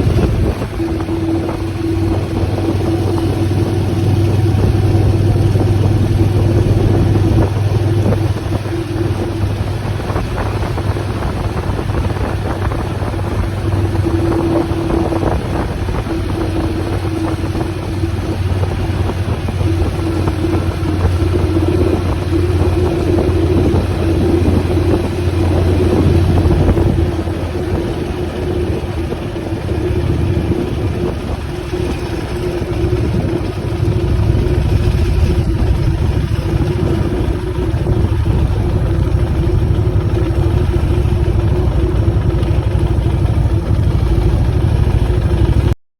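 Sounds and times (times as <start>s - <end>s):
motorcycle engine running: 0.0s - 45.8s.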